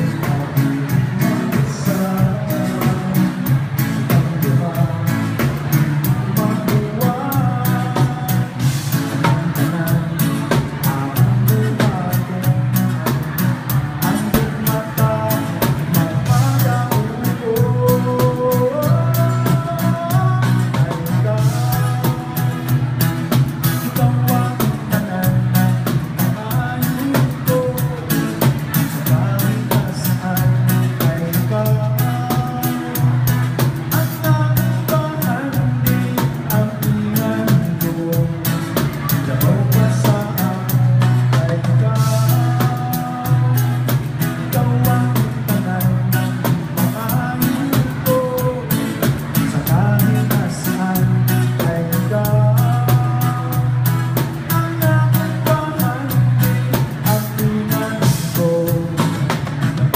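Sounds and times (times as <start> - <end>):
heavy bass: 0.0 - 59.9
live band playing: 0.0 - 59.9.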